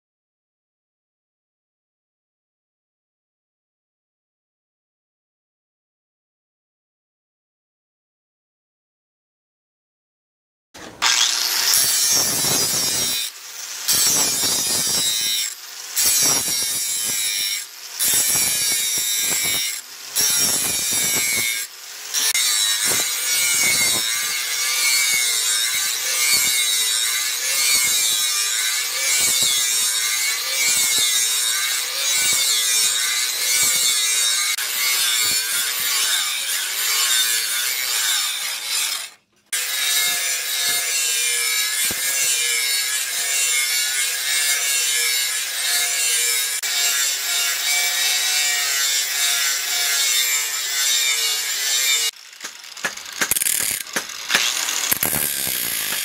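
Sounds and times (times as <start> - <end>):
angle grinder grinding steel: 10.8 - 56.0.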